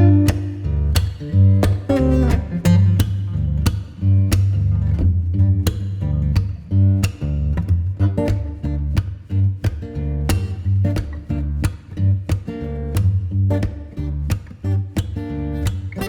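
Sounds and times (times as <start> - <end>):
strummed guitar music with bass: 0.0 - 16.0.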